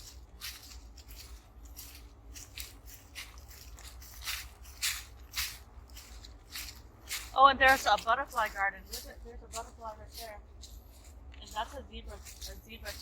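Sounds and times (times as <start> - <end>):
footsteps crunching on leaves: 0.0 - 13.0.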